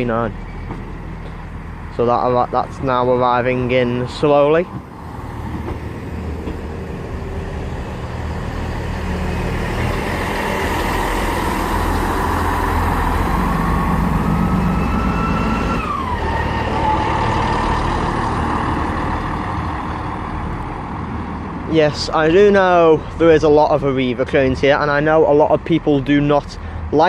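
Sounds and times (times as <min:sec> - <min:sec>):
train whine: 0:00.0 - 0:22.5
train engine rumbling: 0:00.0 - 0:27.0.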